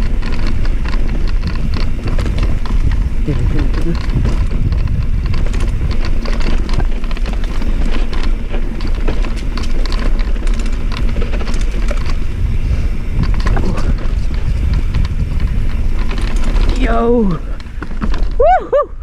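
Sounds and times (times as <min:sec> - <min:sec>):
bike rattling and clicking: 0:00.0 - 0:19.0
wind buffeting microphone: 0:00.0 - 0:19.0.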